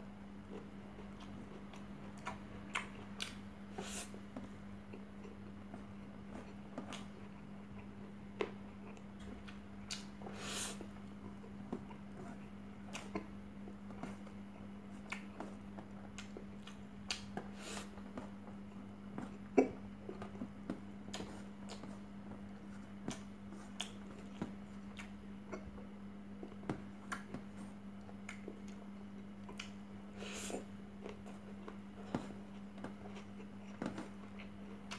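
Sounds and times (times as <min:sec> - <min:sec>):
steady low hum: 0:00.0 - 0:34.9
person chewing: 0:00.4 - 0:22.0, 0:22.6 - 0:25.8, 0:26.4 - 0:34.9.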